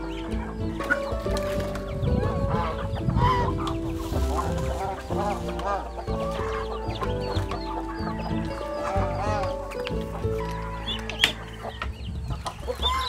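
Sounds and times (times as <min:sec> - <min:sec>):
background music with held notes: 0:00.0 - 0:13.0
chickens clucking: 0:00.0 - 0:13.0.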